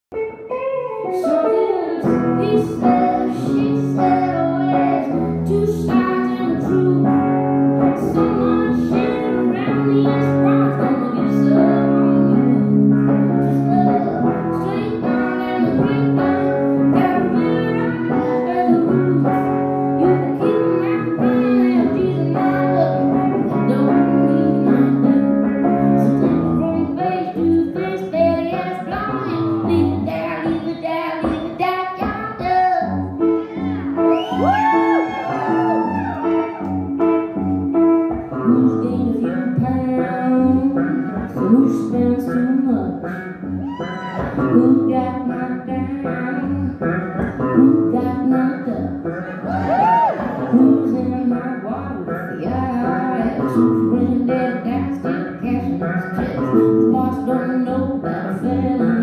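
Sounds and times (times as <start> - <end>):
guitar: 0.0 - 59.0
drums: 0.2 - 51.4, 52.0 - 59.0
woman singing: 0.9 - 36.7, 38.1 - 59.0.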